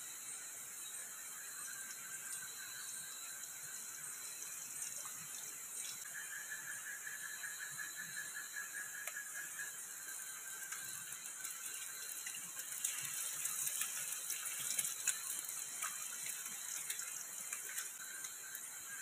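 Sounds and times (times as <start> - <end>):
egg sizzling in hot oil: 0.0 - 19.0.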